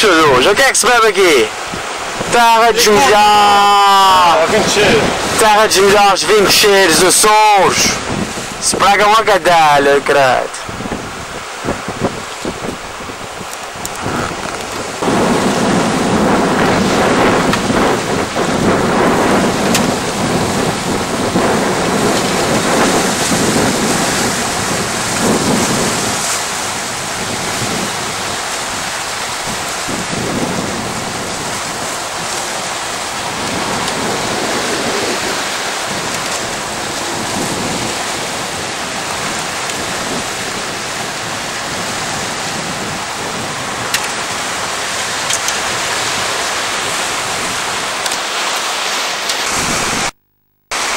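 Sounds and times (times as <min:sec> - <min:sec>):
surf breaking on rocky shore: 0:00.0 - 0:50.9
wind on microphone: 0:01.3 - 0:09.8, 0:10.5 - 0:50.2.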